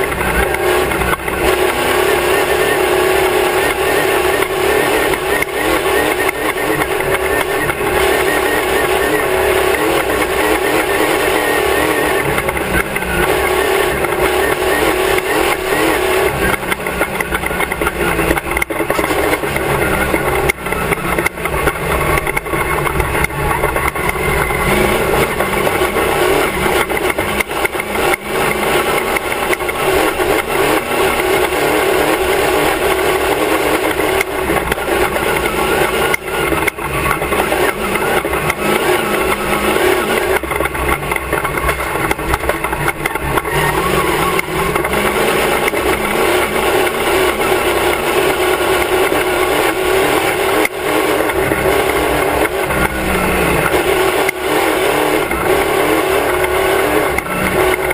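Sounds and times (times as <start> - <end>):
race car engine running hard: 0.0 - 57.9.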